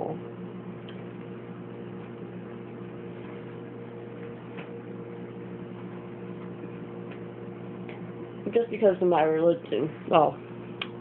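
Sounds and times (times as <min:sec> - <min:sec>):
appliance electrical hum: 0:00.0 - 0:11.0.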